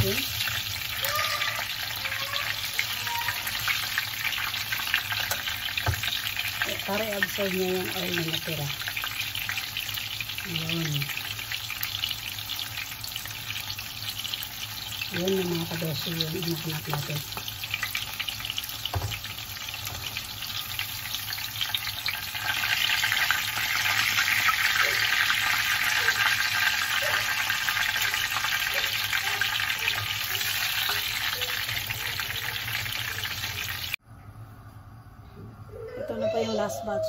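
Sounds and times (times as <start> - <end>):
chicken frying in hot oil: 0.0 - 34.0.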